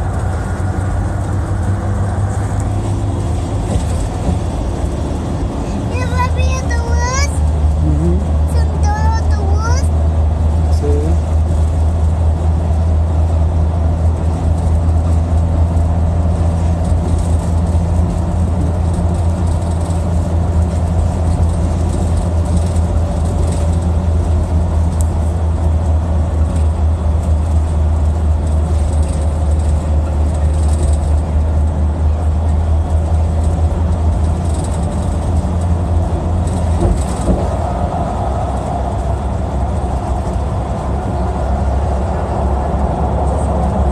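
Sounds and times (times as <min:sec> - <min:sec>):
vehicle rumble inside cabin: 0:00.0 - 0:43.9.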